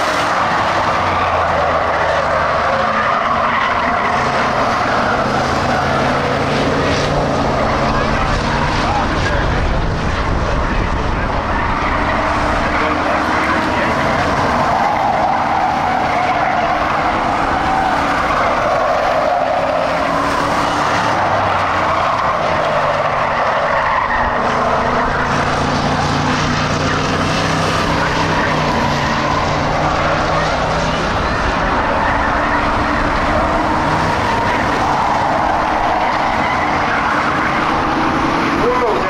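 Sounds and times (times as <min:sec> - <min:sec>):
race car engines droning: 0:00.0 - 0:39.0.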